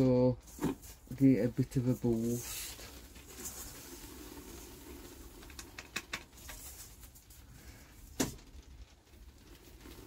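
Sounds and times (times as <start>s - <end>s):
soil pattering into bucket: 0.5s - 10.0s.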